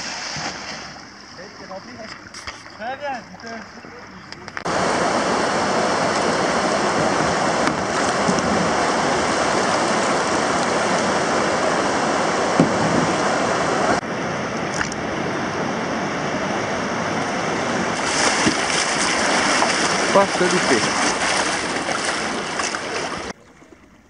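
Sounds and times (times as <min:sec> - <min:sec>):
rushing river current: 0:00.0 - 0:23.4
whitewater roaring over weir: 0:03.3 - 0:23.4.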